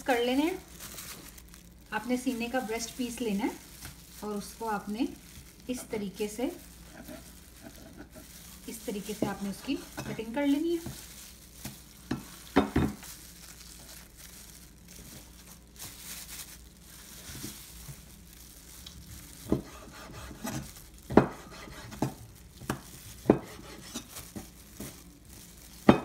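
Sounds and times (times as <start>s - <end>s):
plastic glove rustling: 0.0s - 26.0s.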